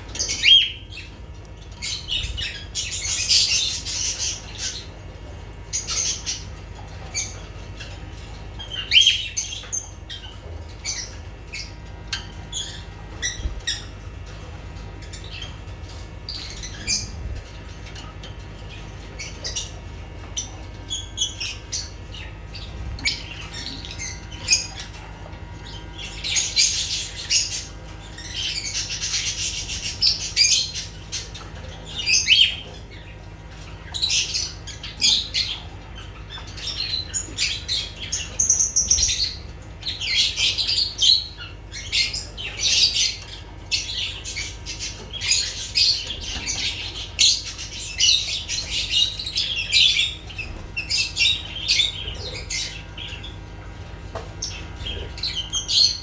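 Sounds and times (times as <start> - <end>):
lovebirds chirping: 0.0 - 56.0.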